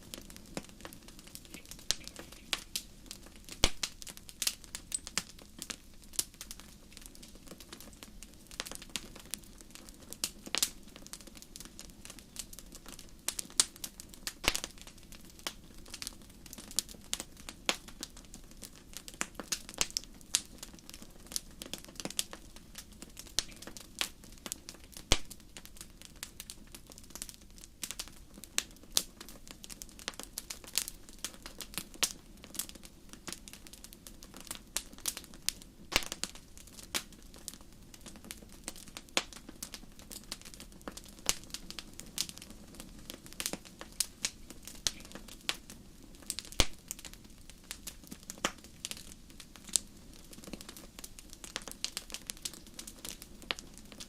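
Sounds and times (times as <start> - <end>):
campfire crackling: 0.0 - 54.0
low rumble of flames: 0.0 - 54.0.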